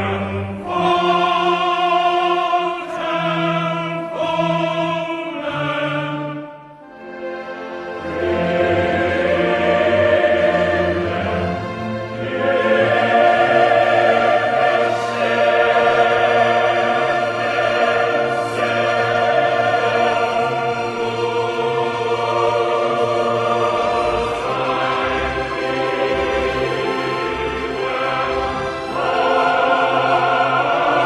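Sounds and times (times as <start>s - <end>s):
choir singing long notes: 0.0s - 31.0s
orchestra playing: 5.9s - 31.0s.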